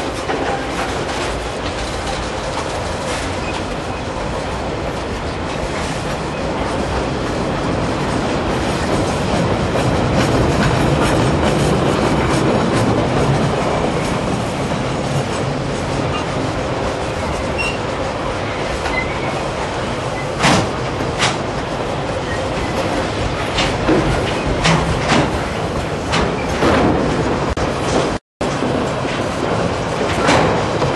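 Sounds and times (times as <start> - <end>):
loud wheel clacks: 0.0 - 18.0, 18.6 - 30.9
wheels rumbling on rail: 0.0 - 30.9.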